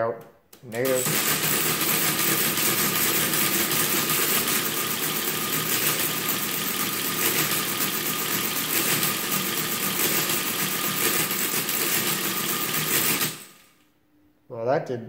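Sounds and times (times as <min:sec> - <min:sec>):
mechanical calculator running: 0:00.7 - 0:13.6.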